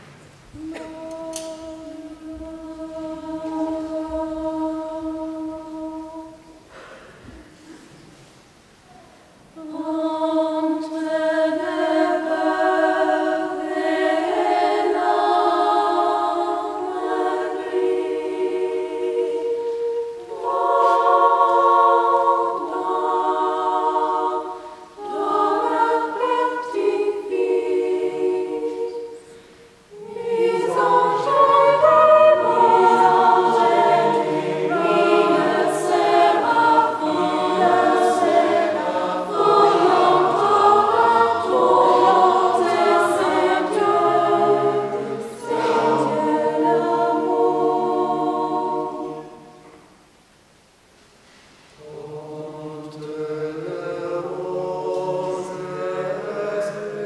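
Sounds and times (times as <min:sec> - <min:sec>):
choir singing unaccompanied: 0:00.0 - 0:07.8, 0:09.4 - 0:50.1, 0:51.8 - 0:57.0.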